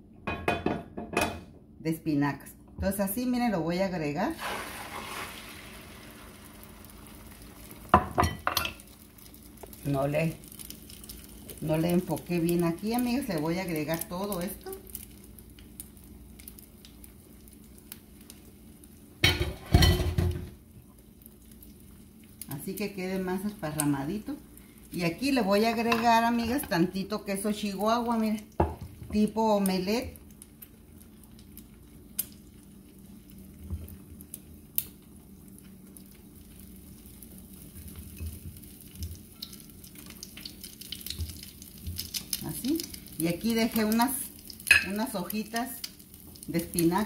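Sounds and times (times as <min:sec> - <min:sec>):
egg sizzling in a frying pan: 0:04.3 - 0:47.0.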